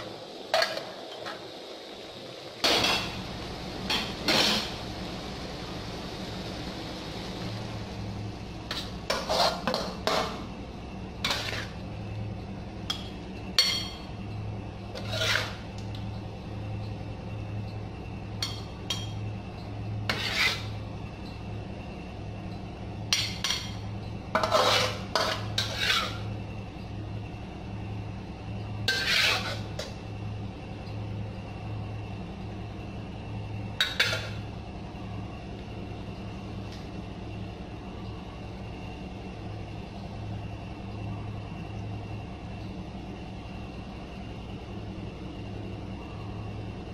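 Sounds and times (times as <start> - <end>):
low steady hum: 0.0 - 46.9.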